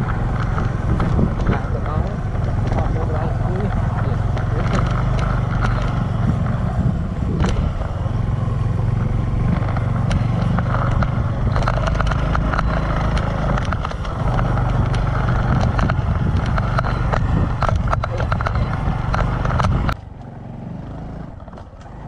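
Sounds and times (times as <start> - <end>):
clicks and rattles: 0.0 - 6.8, 7.4 - 8.2, 8.9 - 20.0
motorcycle engine running: 0.0 - 22.0.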